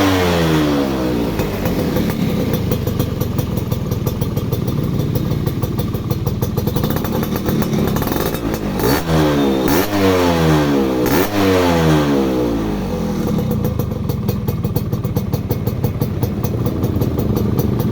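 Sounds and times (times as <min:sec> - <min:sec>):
two-stroke engine idling and revving: 0:00.0 - 0:17.9.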